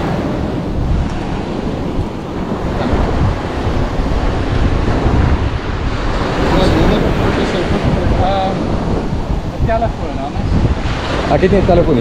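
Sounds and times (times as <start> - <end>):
surf breaking on shore: 0.0 - 12.0
wind rushing over microphone: 0.0 - 12.0.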